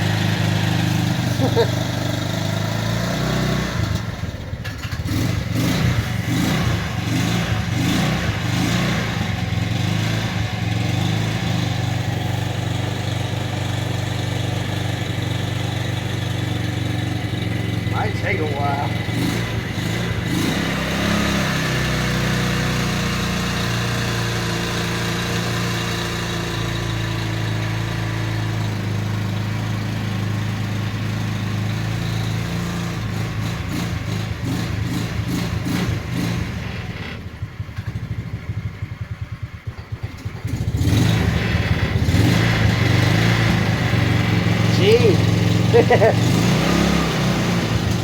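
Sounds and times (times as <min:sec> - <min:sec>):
go-kart engine running rough: 0:00.0 - 0:48.0.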